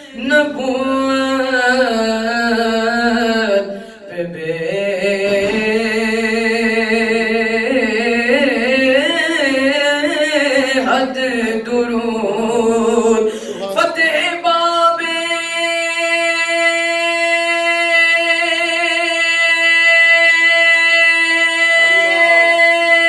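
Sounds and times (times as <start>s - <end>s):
young man singing devotional chant: 0.0s - 23.0s.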